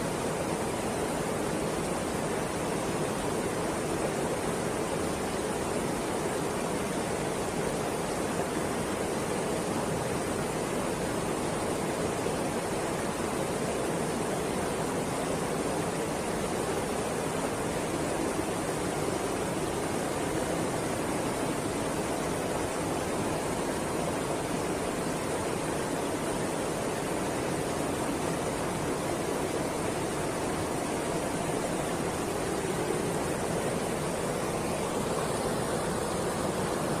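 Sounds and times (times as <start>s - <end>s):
rushing water: 0.0s - 37.0s.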